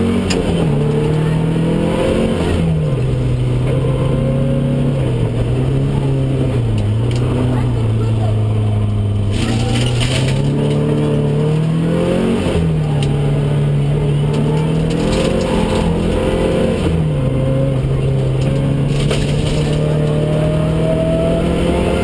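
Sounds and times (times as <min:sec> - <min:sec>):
rally car engine running hard: 0:00.0 - 0:22.0.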